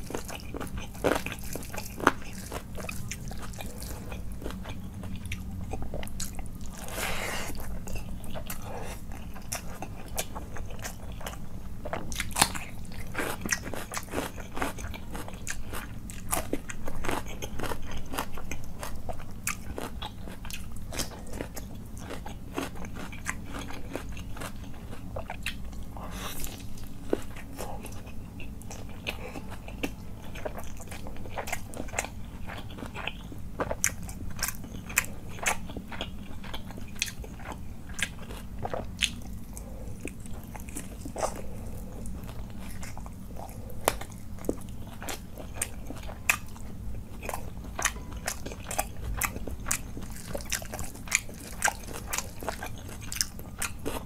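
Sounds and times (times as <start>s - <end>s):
person chewing and crunching: 0.0s - 54.0s.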